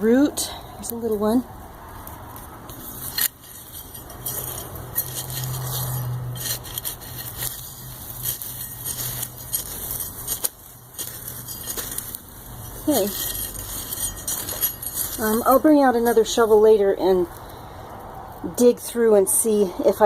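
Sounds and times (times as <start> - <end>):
scraping soil with gritty clicks: 0.8 - 17.6.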